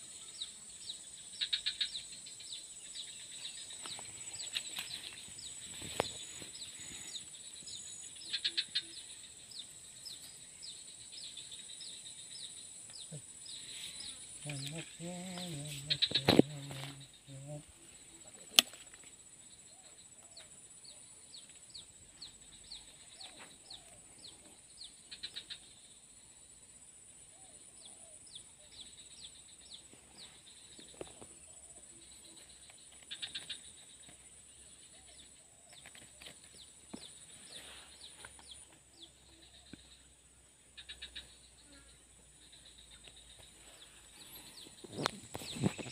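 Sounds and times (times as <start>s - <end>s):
bird chirping: 0.0s - 26.3s, 27.2s - 45.9s
high insect drone: 0.0s - 45.9s.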